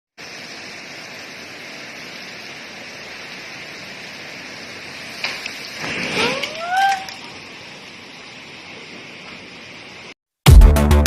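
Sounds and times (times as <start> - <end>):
heavy rain hissing: 0.2 - 10.2.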